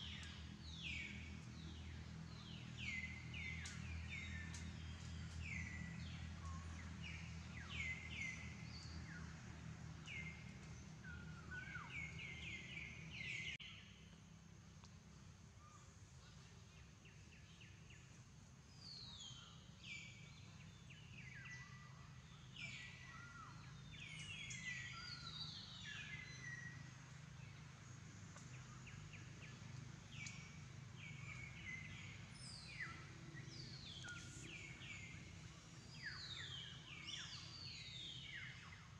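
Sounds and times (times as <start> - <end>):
birds chirping: 0.0 - 13.8, 18.8 - 38.9
faint low hum: 0.0 - 38.9.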